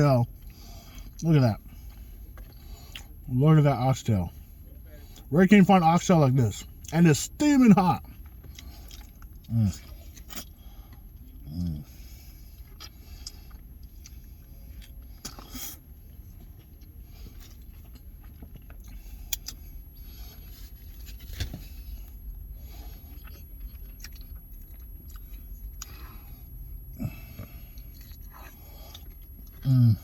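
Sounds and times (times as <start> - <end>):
person chewing food: 0.3 - 3.2, 8.0 - 30.0
steady low rumble: 4.1 - 30.0.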